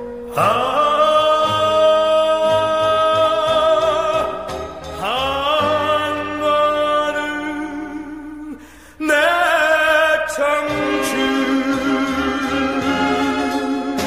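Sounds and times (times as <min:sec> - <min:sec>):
instrumental backing music: 0:00.0 - 0:14.0
man singing pop song: 0:00.3 - 0:14.0.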